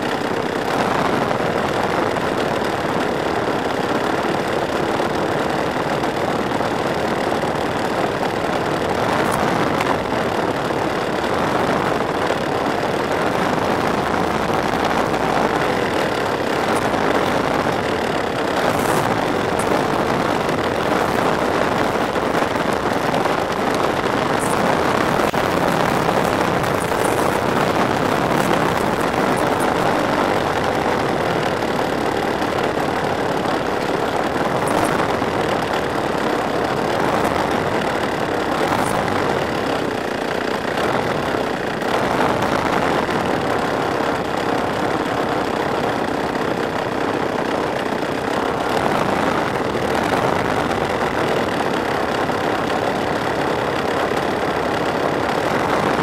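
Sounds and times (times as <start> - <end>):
two-stroke engine with propeller: 0.0 - 56.0.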